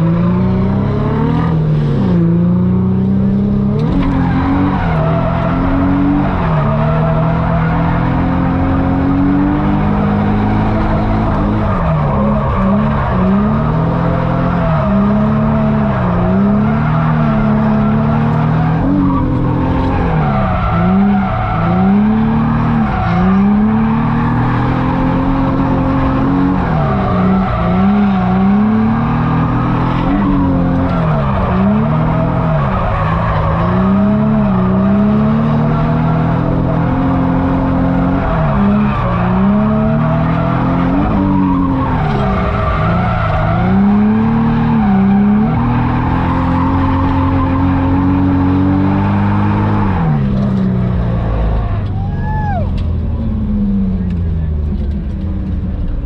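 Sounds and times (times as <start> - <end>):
car engine revving hard: 0.0 - 51.9
tyres skidding and squealing: 0.0 - 56.0.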